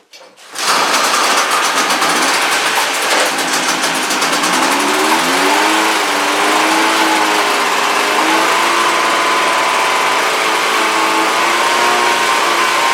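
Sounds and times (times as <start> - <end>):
snowmobile engine revving: 1.4 - 12.9.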